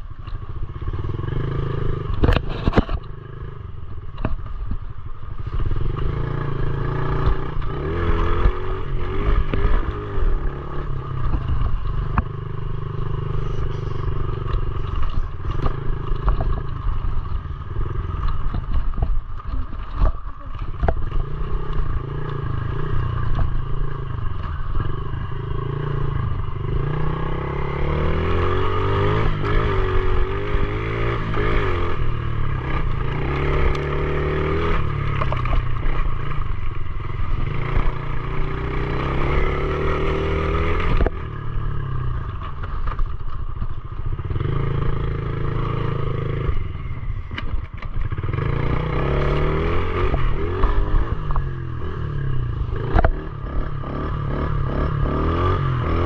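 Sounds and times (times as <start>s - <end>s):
bike knocking and rattling: 0.0s - 3.3s, 3.9s - 27.4s, 28.2s - 55.1s
pit bike engine revving: 5.4s - 20.1s, 20.8s - 43.2s, 44.0s - 56.0s.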